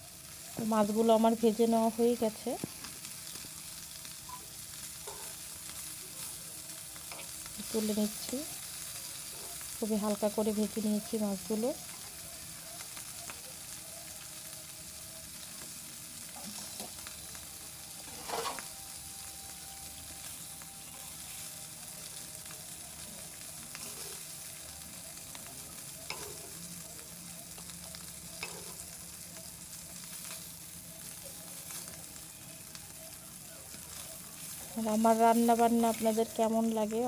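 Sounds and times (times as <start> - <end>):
fish sizzling in hot oil: 0.0 - 37.0.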